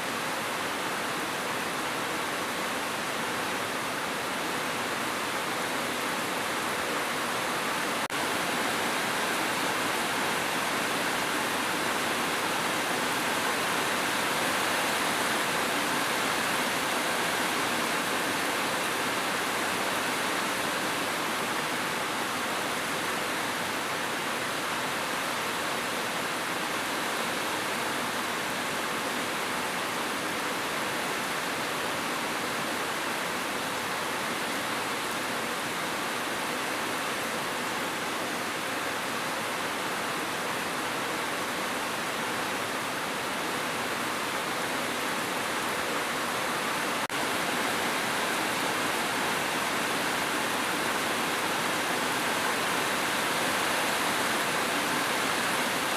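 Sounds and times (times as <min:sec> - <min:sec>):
heavy rainfall hiss: 0:00.0 - 0:55.9.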